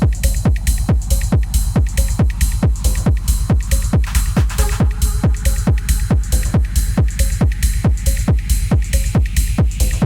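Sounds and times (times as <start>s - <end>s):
electronic dance music: 0.0s - 10.0s
hi-hats: 0.0s - 10.0s
steady kick drum: 0.0s - 10.0s
sustained bass: 0.0s - 10.0s.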